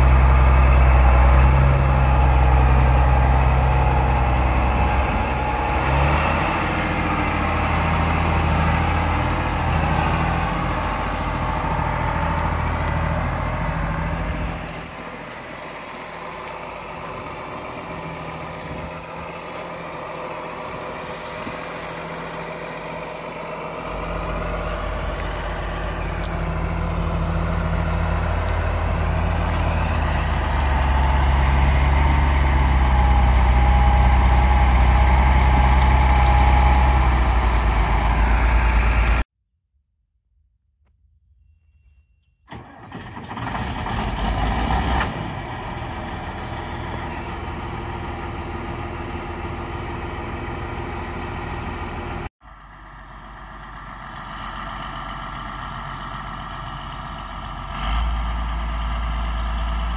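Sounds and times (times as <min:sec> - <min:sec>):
tractor diesel engine running: 0:00.0 - 0:39.3, 0:42.5 - 0:59.9.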